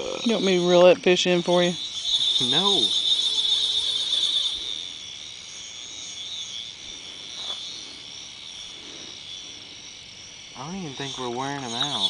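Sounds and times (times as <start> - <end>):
insects buzzing trill: 0.0 - 12.0.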